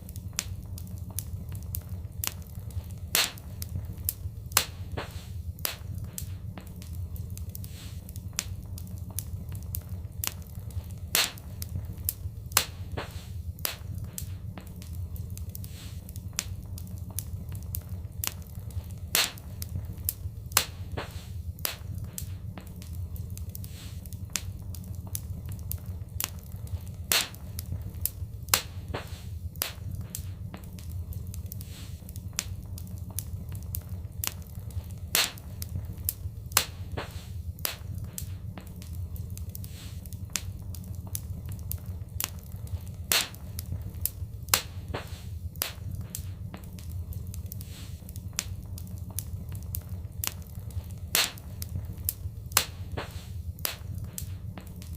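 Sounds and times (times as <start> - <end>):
low rumble: 0.0 - 54.9
wood fire crackling: 0.0 - 54.9.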